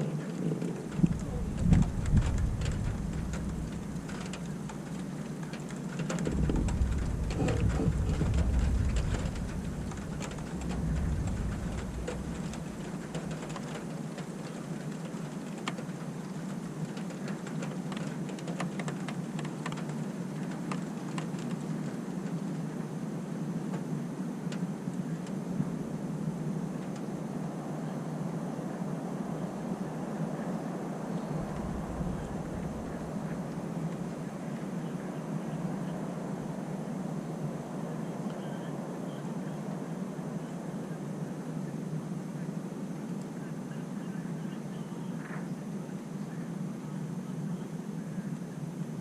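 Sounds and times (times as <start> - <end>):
low rumble of thunder: 0.0 - 49.0
steady rain falling: 0.0 - 49.0.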